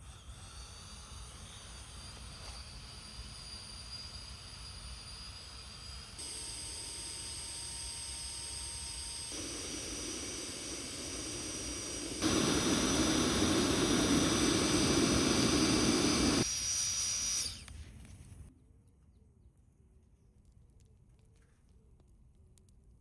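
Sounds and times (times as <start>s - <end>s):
electric air pump whining: 0.0s - 18.5s.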